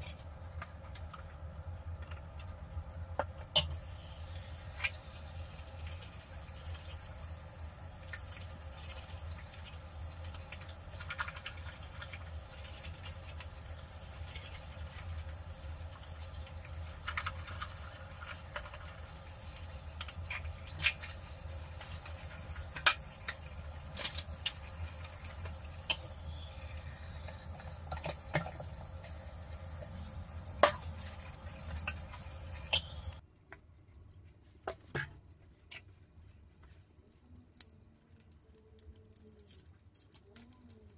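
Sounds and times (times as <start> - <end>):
steady low hum: 0.0 - 34.3.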